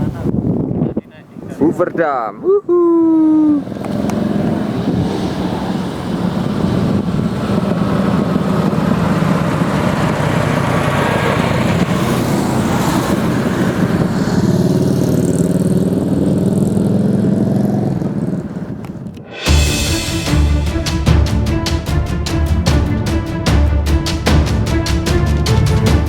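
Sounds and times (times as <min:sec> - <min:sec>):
road and traffic noise: 0:00.0 - 0:26.0
vehicle engine hum: 0:03.0 - 0:26.0.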